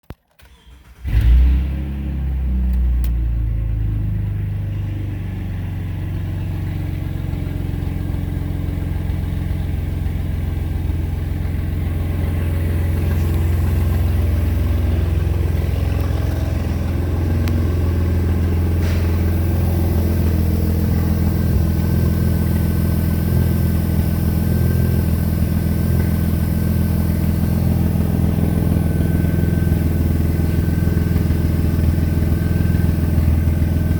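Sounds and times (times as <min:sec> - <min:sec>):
car engine starting and idling: 0:00.2 - 0:33.9.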